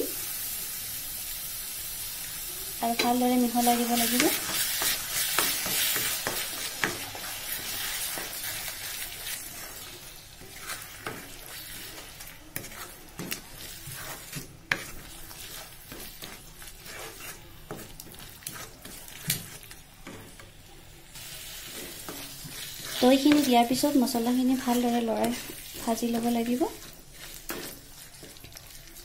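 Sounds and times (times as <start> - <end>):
paste sizzling in a wok: 0.0 - 29.0
spatula scraping and tapping pan: 2.9 - 20.6, 21.5 - 28.8.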